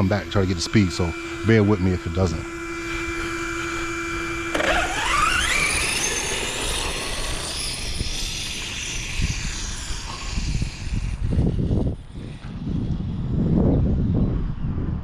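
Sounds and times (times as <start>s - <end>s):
electric motor whining: 0.0s - 14.2s
wind buffeting microphone: 0.0s - 15.0s.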